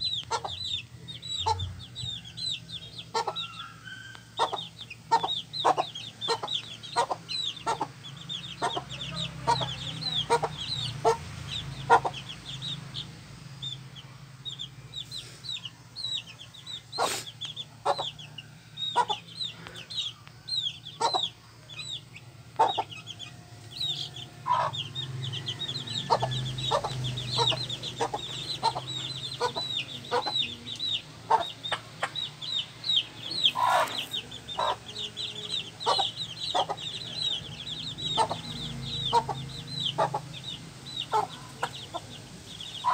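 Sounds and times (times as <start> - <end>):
hen clucking: 0.0 - 13.8, 14.5 - 42.9
chicks peeping: 0.0 - 42.9.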